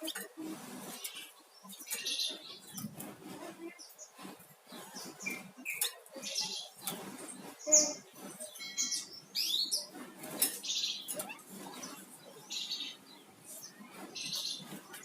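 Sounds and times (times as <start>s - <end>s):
songbird singing: 0.0s - 2.9s, 4.8s - 15.0s.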